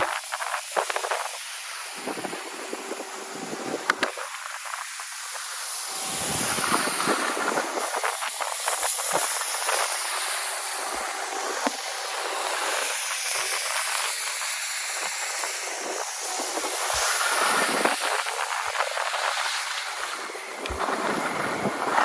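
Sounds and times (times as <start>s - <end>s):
snowmaking gun hissing: 0.0s - 22.0s.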